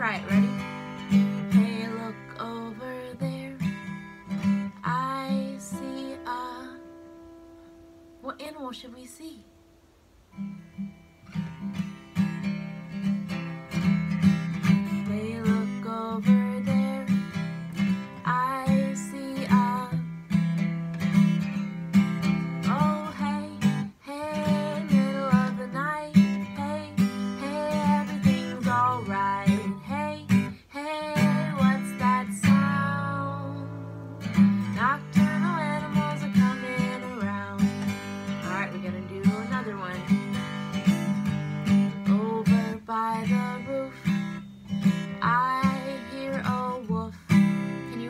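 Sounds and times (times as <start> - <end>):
woman singing: 0.0 - 7.3, 14.2 - 20.5, 22.3 - 48.0
acoustic guitar strumming: 0.0 - 48.0.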